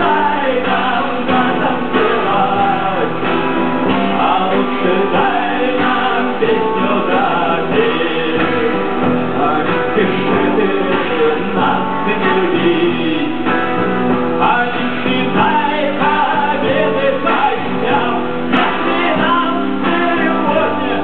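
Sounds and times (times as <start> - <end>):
live rock band with singing: 0.0 - 21.0.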